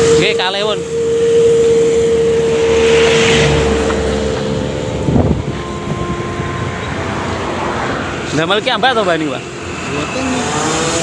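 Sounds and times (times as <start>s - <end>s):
engine hum: 0.0s - 11.0s
road traffic passing: 0.0s - 11.0s.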